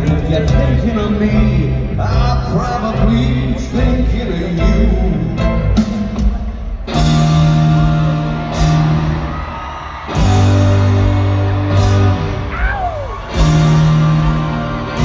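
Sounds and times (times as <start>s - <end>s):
rock band playing loud chords: 0.0s - 15.0s.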